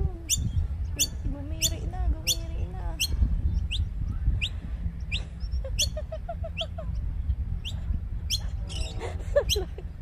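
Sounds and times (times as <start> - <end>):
steady low rumble: 0.0 - 10.0
birds chirping: 0.2 - 10.0.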